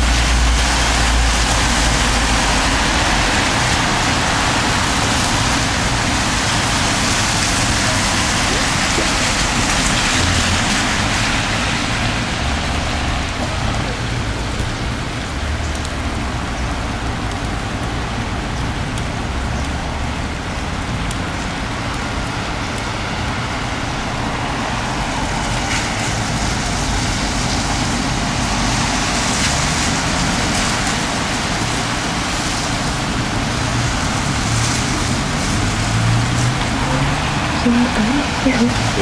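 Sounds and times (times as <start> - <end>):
sleet and rain falling: 0.0 - 39.0.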